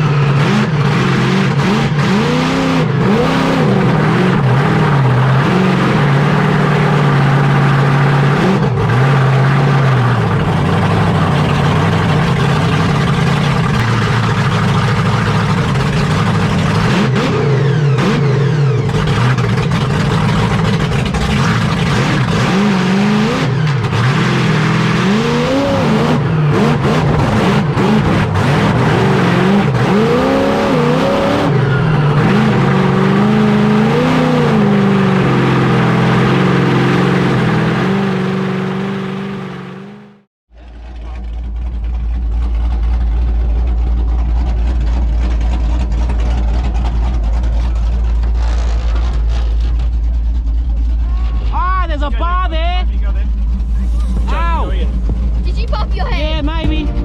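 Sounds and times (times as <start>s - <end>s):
monster truck engine revving: 0.0s - 57.0s.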